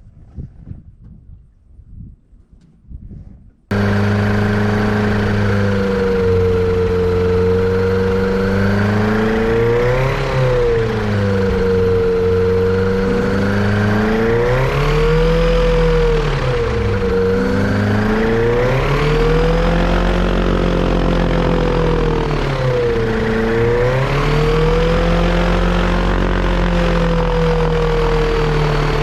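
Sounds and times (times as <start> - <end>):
aircraft engine running unevenly: 3.7 - 29.0.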